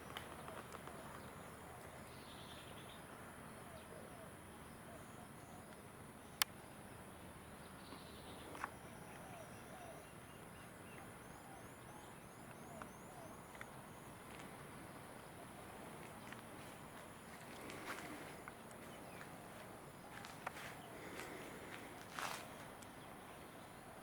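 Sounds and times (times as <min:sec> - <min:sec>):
distant birds chirping: 0:00.0 - 0:24.0.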